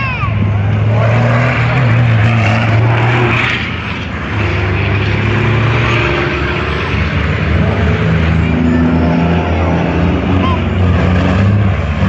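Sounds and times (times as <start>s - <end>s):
truck diesel engines droning: 0.0s - 12.0s.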